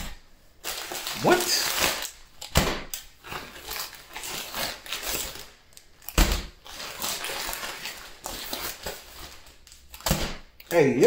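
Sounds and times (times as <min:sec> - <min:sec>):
plastic pouches crinkling: 0:00.6 - 0:11.0.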